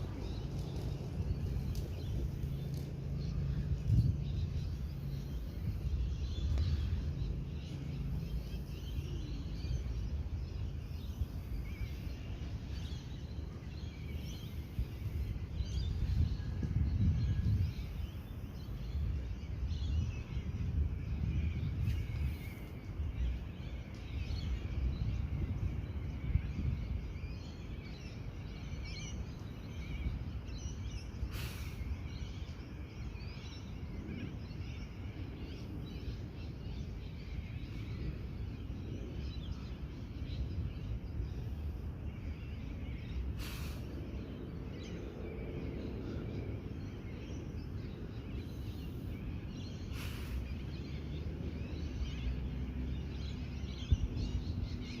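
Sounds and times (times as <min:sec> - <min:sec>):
low rumble: 0:00.0 - 0:55.0
small birds chirping: 0:00.0 - 0:55.0.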